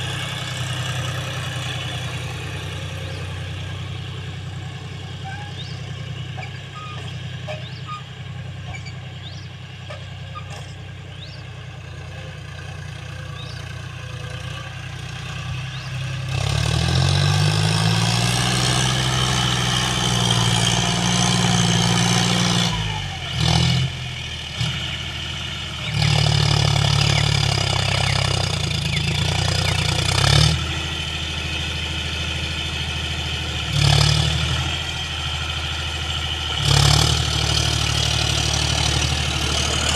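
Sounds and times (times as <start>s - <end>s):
engine revving: 0.0s - 9.5s, 12.4s - 39.9s
tractor diesel engine running: 0.0s - 39.9s.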